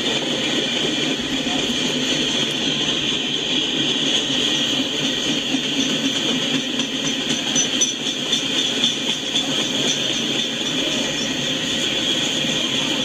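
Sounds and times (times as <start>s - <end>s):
freight train wheels on track: 0.0s - 13.0s.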